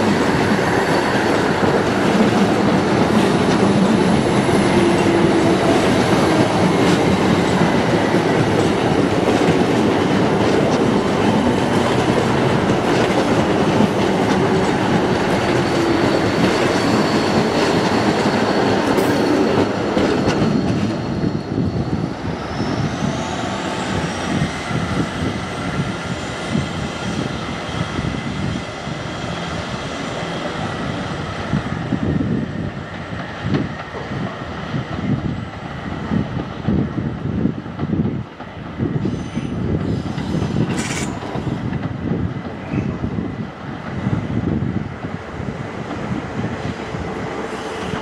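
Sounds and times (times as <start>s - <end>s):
train passing: 0.0s - 48.0s.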